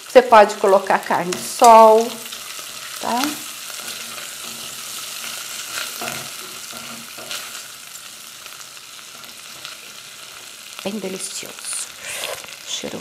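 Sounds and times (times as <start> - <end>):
bacon and sausage sizzling: 0.0 - 13.0.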